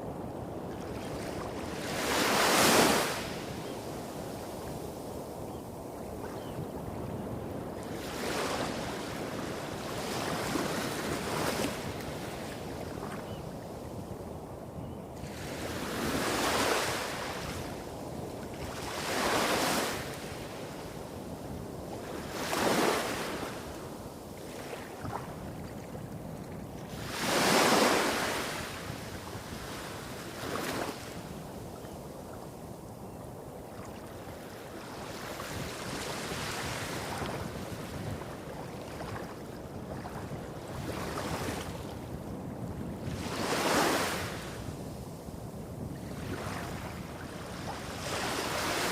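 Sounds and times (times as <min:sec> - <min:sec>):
small waves breaking on beach: 0:00.1 - 0:06.5, 0:07.2 - 0:13.7, 0:15.2 - 0:32.6, 0:33.6 - 0:48.9.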